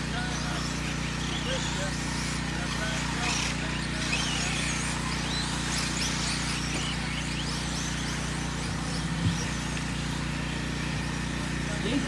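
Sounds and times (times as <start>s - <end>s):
low hum: 0.0s - 11.7s
electric toy car motors whining: 0.0s - 12.0s.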